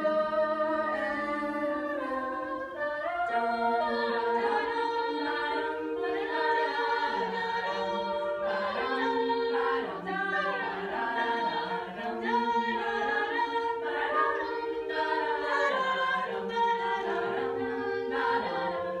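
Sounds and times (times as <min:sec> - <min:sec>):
women singing a cappella harmony: 0:00.0 - 0:19.0.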